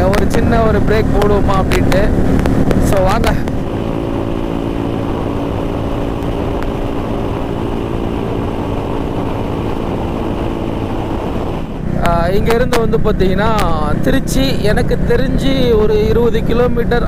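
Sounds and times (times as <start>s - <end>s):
motorcycle engine cruising: 0.0s - 17.0s
wind noise: 0.0s - 17.0s.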